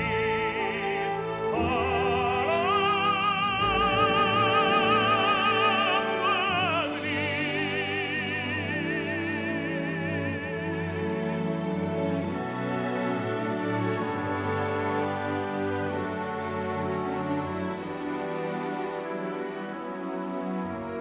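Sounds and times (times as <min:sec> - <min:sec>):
operatic singing with vibrato: 0:00.0 - 0:17.7
orchestral accompaniment: 0:00.0 - 0:21.0.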